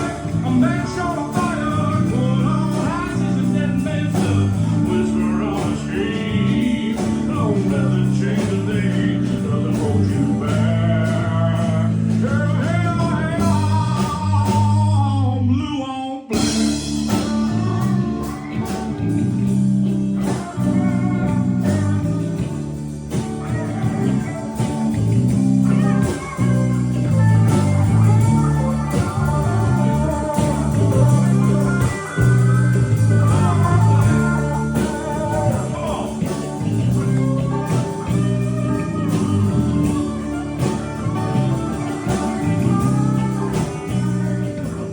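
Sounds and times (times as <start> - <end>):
bass guitar: 0.0 - 44.9
guitar: 0.0 - 44.9
person singing: 0.0 - 44.9.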